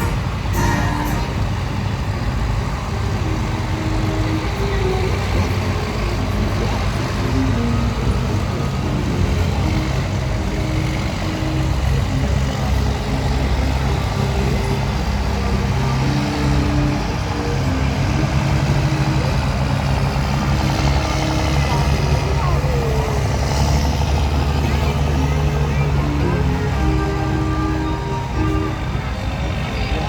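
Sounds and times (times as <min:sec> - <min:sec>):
heavy trucks driving past: 0:00.0 - 0:30.0.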